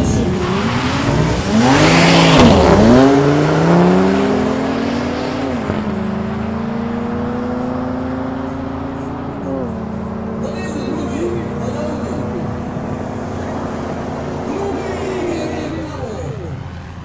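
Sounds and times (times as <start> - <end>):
car engines accelerating hard: 0.0 - 17.0.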